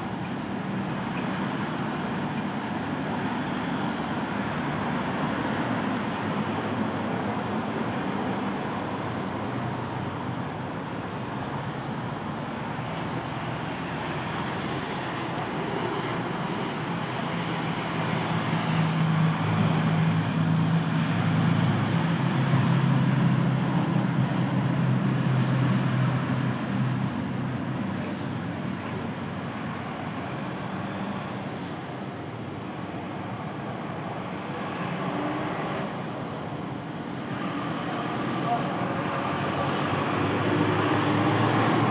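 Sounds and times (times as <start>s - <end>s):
passing vehicles: 0.0s - 41.9s
vehicle engine hum: 0.0s - 41.9s.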